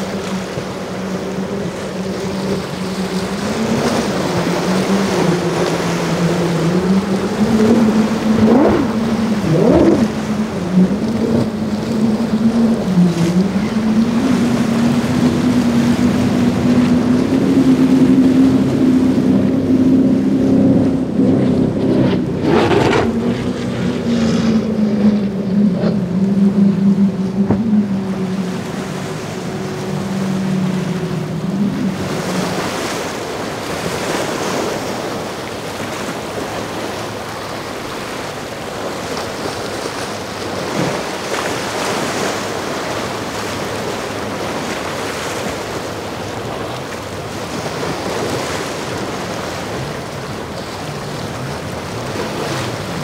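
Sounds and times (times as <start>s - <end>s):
motorboat engines droning: 0.0s - 53.0s
waves and surf washing: 0.0s - 53.0s
wind on microphone: 0.0s - 53.0s.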